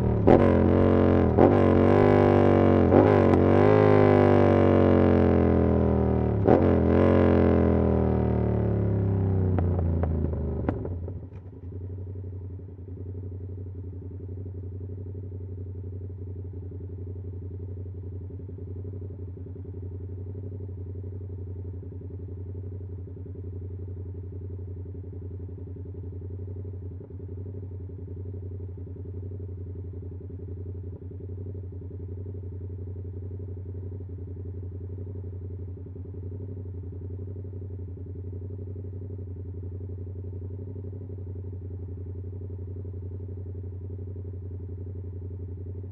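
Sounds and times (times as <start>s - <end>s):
motorcycle engine idling: 0.0s - 3.8s, 7.3s - 45.9s.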